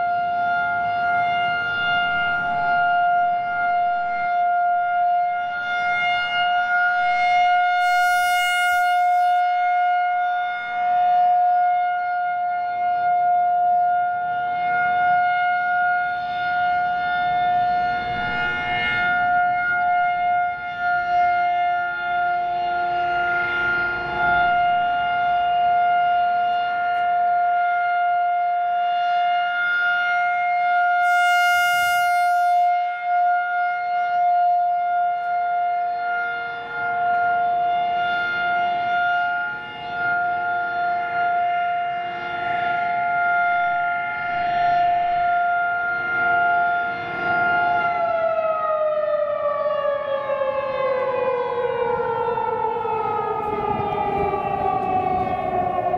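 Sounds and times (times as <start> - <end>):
electronic siren alert tone: 0.0 - 55.9.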